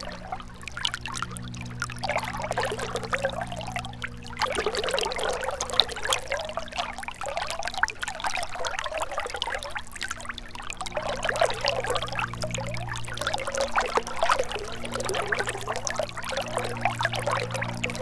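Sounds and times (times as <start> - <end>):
faint low hum: 0.0 - 18.0
river water trickling over stones: 0.0 - 18.0.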